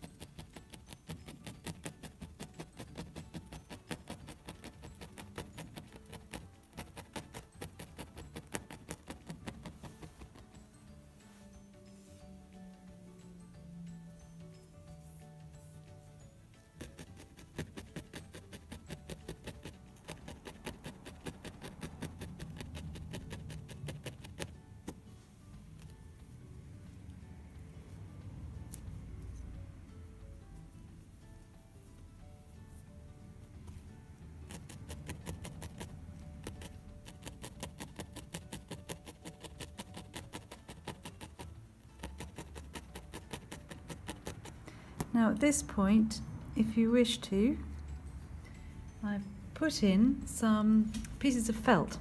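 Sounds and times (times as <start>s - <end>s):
felting needle ticking: 0.0s - 11.1s, 12.5s - 27.2s, 33.6s - 51.9s.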